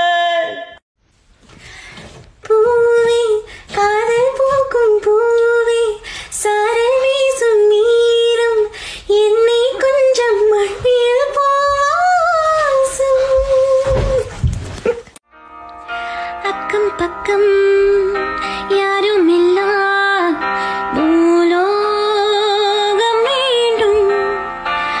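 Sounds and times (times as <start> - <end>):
woman singing: 0.0 - 0.8, 2.4 - 14.4, 16.4 - 25.0.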